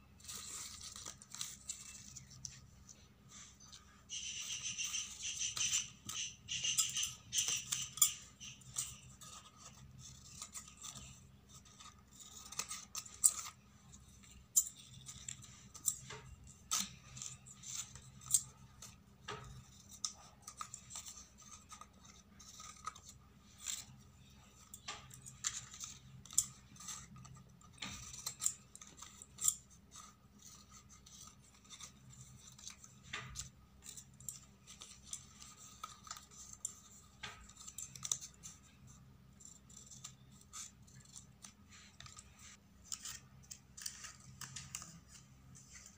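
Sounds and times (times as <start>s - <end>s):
scissors snipping paper: 0.2s - 45.9s.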